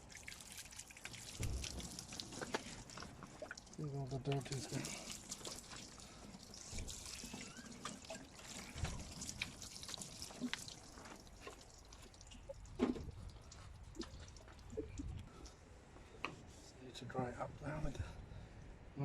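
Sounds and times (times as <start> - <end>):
water dripping and trickling: 0.0 - 15.6.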